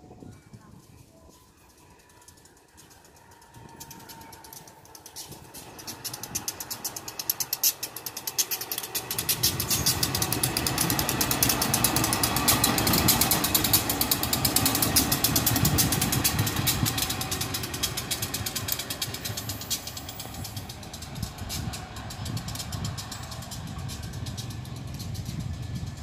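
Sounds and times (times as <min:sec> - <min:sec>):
locomotive engine chugging: 0:00.1 - 0:26.0.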